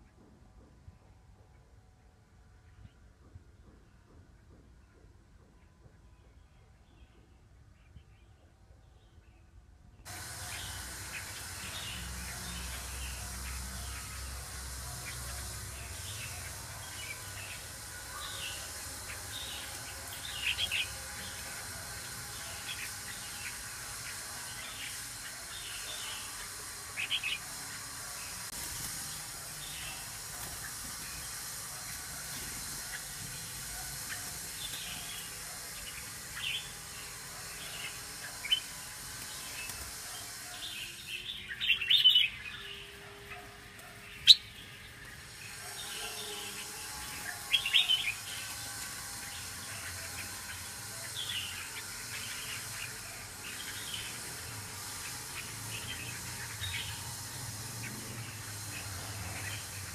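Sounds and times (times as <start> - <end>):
birds chirping and calling: 10.1 - 59.9
steady hiss: 10.1 - 59.9.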